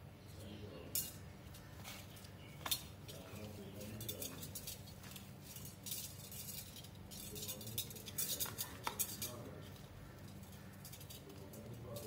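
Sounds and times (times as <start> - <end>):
metal bangles clinking: 0.3 - 12.0.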